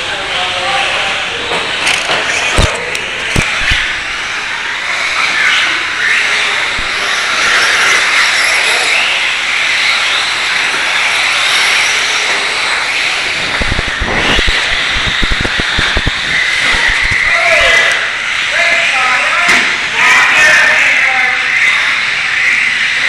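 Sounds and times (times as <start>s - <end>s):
radio-controlled trucks whining: 0.0s - 23.0s.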